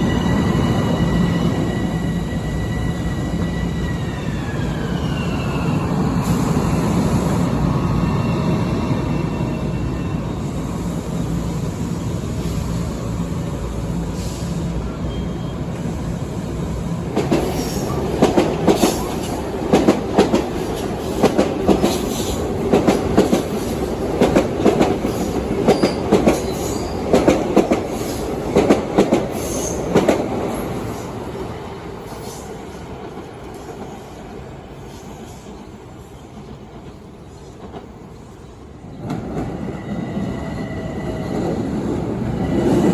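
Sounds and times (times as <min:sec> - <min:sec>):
electric train rumbling past: 0:00.0 - 0:42.9.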